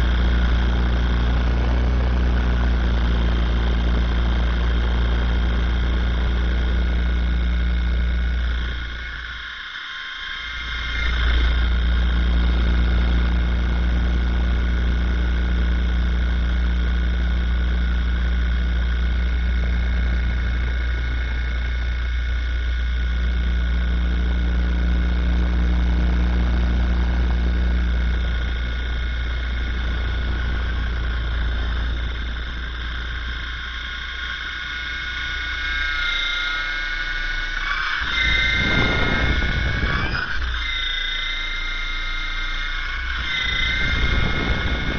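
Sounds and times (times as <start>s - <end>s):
rc helicopter low drone: 0.0s - 44.9s
rotor high whine: 0.0s - 44.9s.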